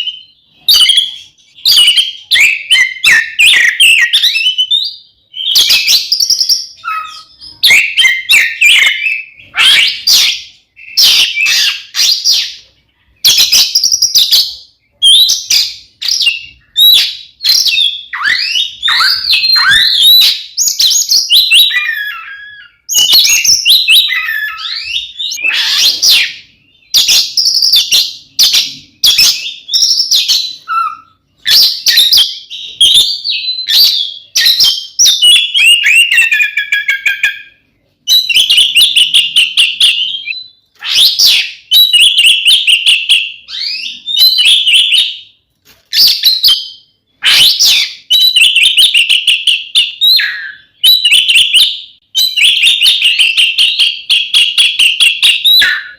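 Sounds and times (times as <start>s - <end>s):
bird singing whistles and trills: 0.0s - 55.9s.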